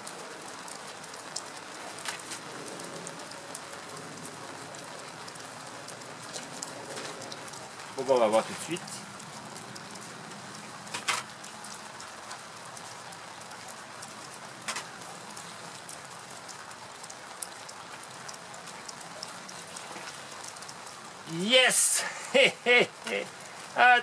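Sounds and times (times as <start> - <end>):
light crackling hiss: 0.0 - 24.0.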